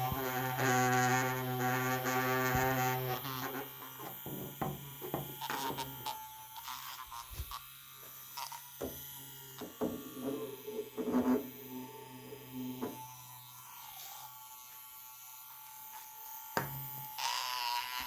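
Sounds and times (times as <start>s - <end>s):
electric toothbrush buzzing: 0.0s - 18.0s.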